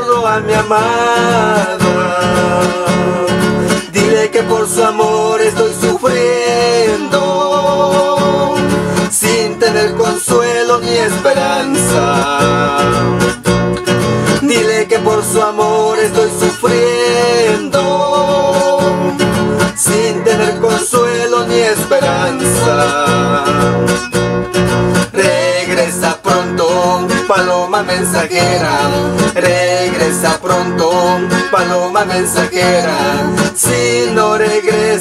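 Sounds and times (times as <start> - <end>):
two men singing: 0.0 - 13.4, 14.2 - 24.0, 25.0 - 35.0
strummed acoustic guitar: 0.0 - 35.0.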